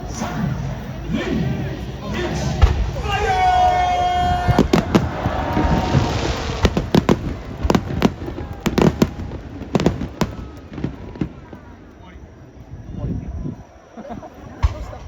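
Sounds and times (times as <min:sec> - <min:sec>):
fireworks bangs: 0:00.0 - 0:12.7.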